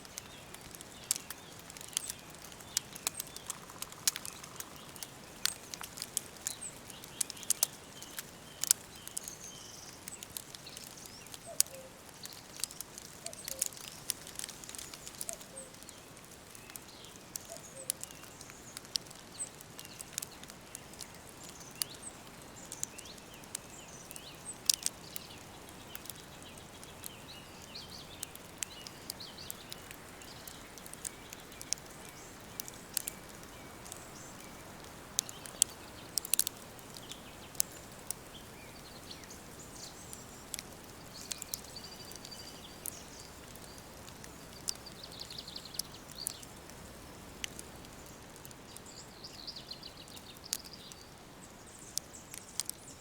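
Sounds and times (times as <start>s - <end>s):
birds chirping faintly: 0.0s - 53.0s
quiet steady hiss: 0.0s - 53.0s
wood fire crackling: 0.0s - 53.0s.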